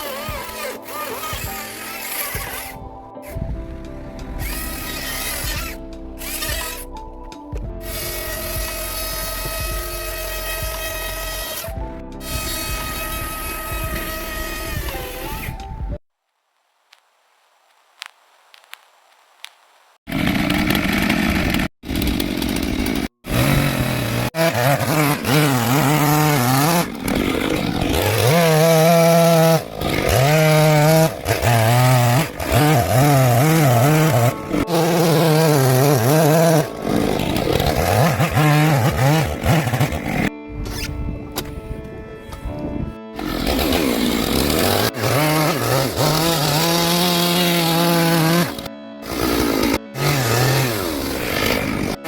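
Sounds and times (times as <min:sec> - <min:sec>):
chainsaw cutting wood: 0:00.0 - 0:03.4, 0:04.2 - 0:07.0, 0:07.6 - 0:15.7, 0:20.1 - 0:40.9, 0:43.1 - 0:52.0.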